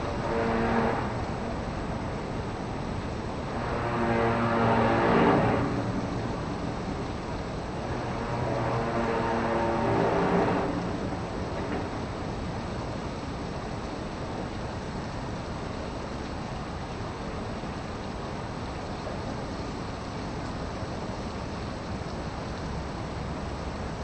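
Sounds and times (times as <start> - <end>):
background rumble and hiss: 0.0 - 24.0.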